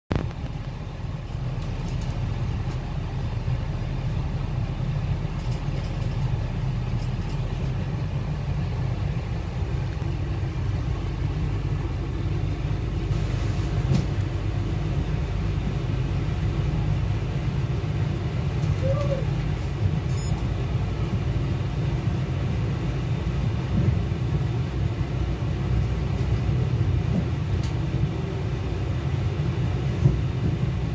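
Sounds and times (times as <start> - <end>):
diesel train engine rumble: 0.1 - 30.9.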